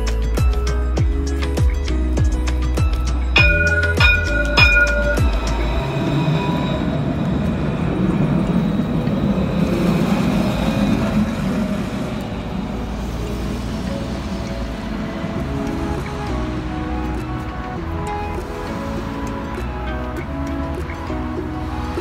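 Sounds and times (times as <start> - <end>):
tram rumbling along track: 1.8 - 22.0.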